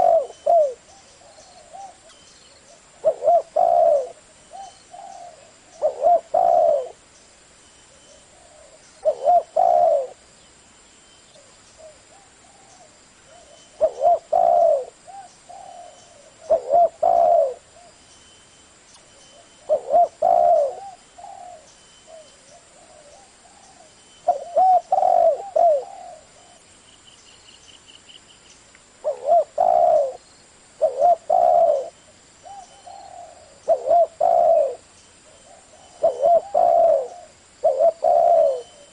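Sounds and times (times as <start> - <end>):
dove cooing: 0.0 - 7.0, 7.9 - 10.2, 11.4 - 18.0, 19.3 - 26.6, 29.0 - 30.2, 30.8 - 38.9.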